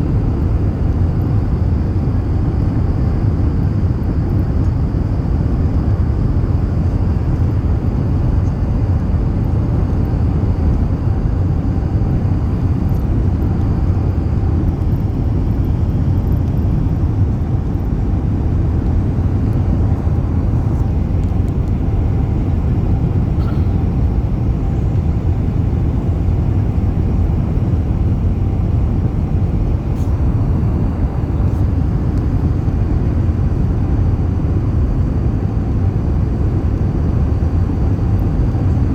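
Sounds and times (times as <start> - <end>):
airplane low rumble: 0.0 - 38.9.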